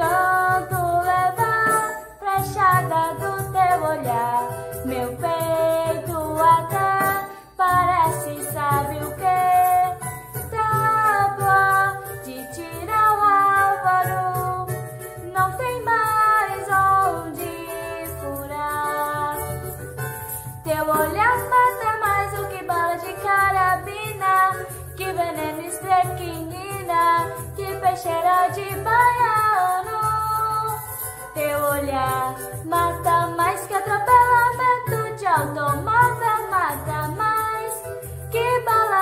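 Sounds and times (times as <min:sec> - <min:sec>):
girl singing samba melody: 0:00.0 - 0:39.0
shaker-like percussion: 0:00.0 - 0:39.0.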